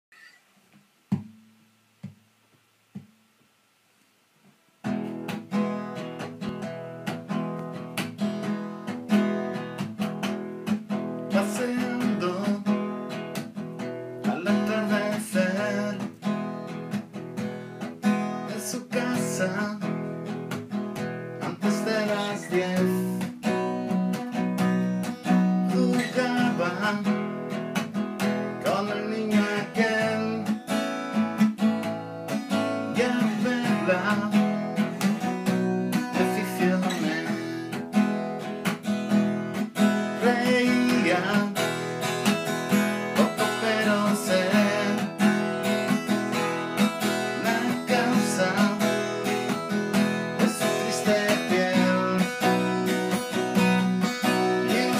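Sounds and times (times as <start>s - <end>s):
acoustic guitar strumming: 4.8s - 54.9s.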